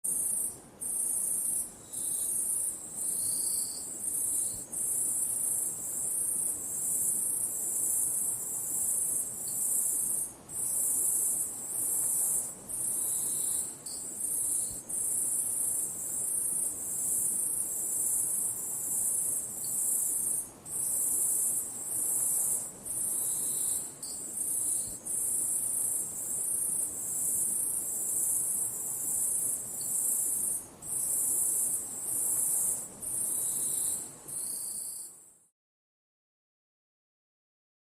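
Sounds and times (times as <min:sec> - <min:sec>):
insects trilling: 0:00.1 - 0:35.4.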